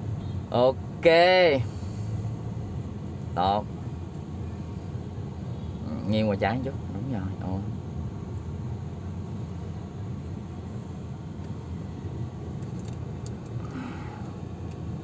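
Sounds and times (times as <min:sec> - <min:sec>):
car rumble from inside cabin: 0:00.0 - 0:15.0.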